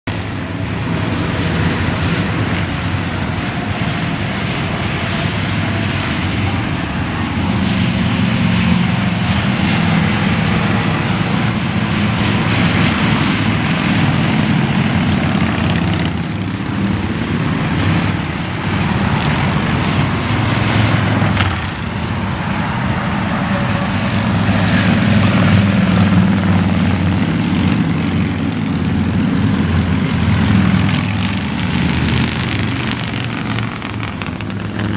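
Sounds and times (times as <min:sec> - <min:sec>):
motorcycles riding past: 0:00.1 - 0:34.9.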